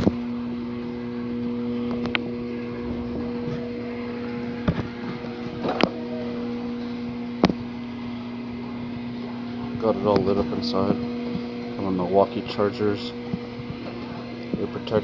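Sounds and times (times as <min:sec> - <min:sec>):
workshop hum: 0:00.0 - 0:15.0.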